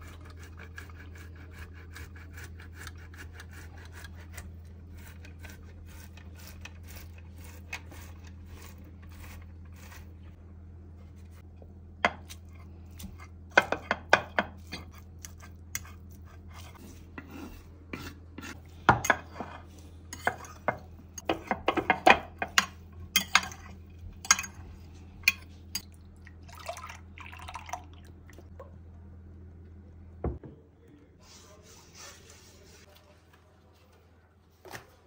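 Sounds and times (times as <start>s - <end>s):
steady low hum: 0.0s - 34.3s.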